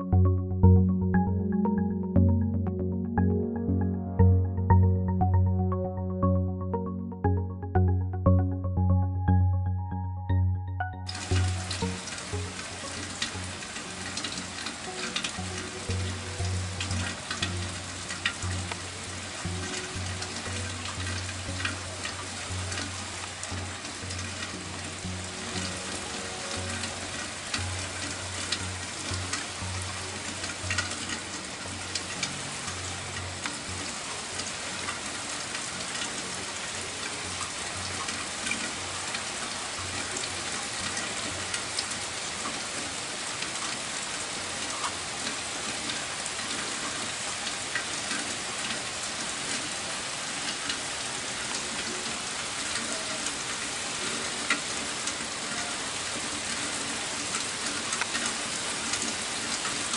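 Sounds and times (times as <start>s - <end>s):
steady rain falling: 11.0s - 59.9s.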